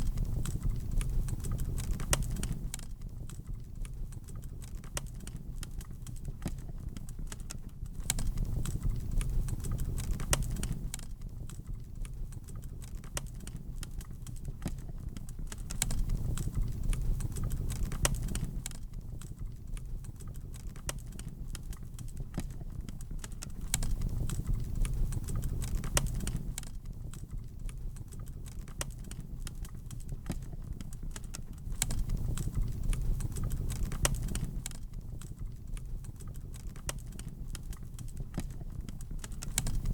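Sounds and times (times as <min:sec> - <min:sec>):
low rumble of flames: 0:00.0 - 0:39.9
wood fire popping and snapping: 0:00.0 - 0:39.9.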